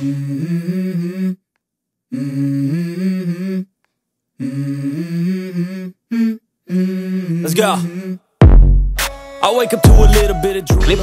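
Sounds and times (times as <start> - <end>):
hummed vocal melody: 0.0 - 8.5, 9.4 - 11.0.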